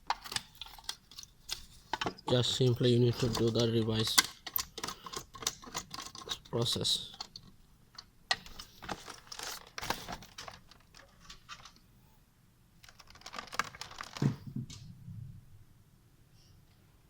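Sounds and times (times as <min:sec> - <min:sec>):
plastic parts rustling: 0:00.0 - 0:11.8, 0:12.8 - 0:14.8.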